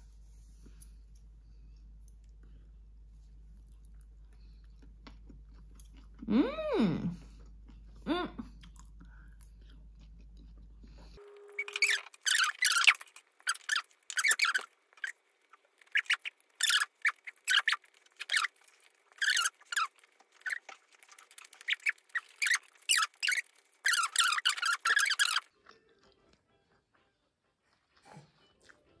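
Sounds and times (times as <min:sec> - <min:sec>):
person chewing food: 0:00.6 - 0:06.5, 0:07.2 - 0:29.0.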